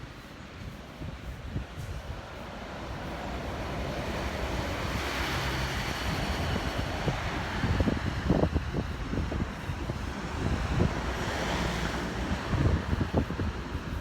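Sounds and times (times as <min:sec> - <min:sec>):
rushing noise: 0:00.0 - 0:14.0
wind buffeting microphone: 0:00.0 - 0:14.0.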